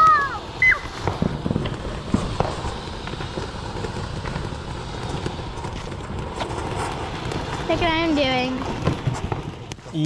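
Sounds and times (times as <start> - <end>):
fountain fireworks hissing: 0.0 - 10.0.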